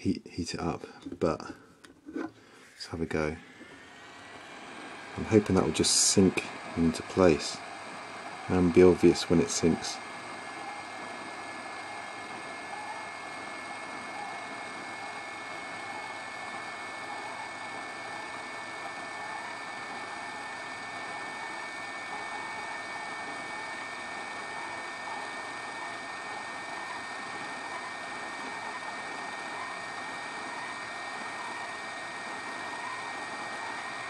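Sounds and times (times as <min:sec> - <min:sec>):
hot-air blower rushing: 0:02.1 - 0:34.0.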